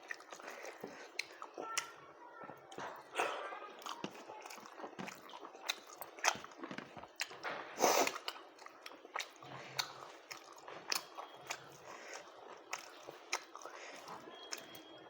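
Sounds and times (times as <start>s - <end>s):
person chewing rice: 0.0s - 15.0s.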